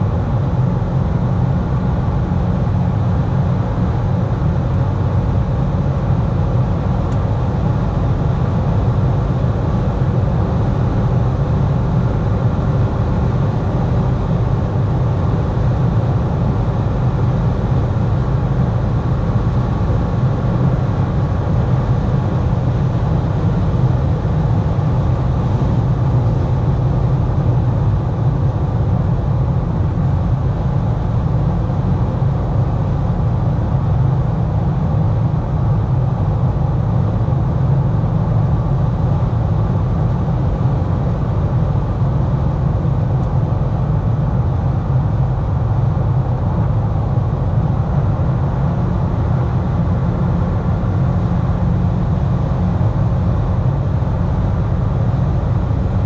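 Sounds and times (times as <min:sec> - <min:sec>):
faint engine hum: 0:00.0 - 0:56.0
road and wind noise in car cabin: 0:00.0 - 0:56.0.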